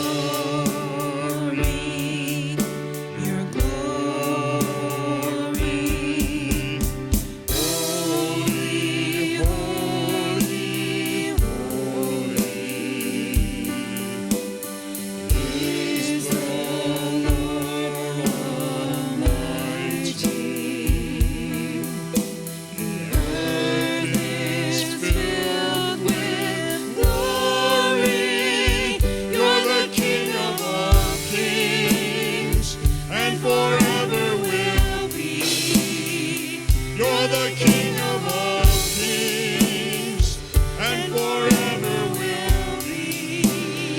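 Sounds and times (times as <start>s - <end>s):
steady drum beat: 0.0s - 43.9s
voices singing with vibrato: 0.0s - 43.9s.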